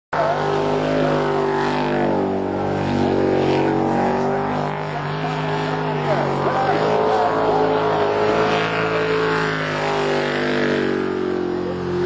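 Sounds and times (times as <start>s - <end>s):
jet boat engine at high revs: 0.1s - 12.0s.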